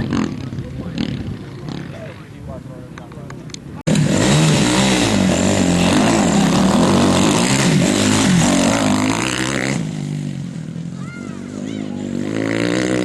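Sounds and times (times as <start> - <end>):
motorcycle engine revving hard: 0.0 - 2.0, 3.9 - 13.0.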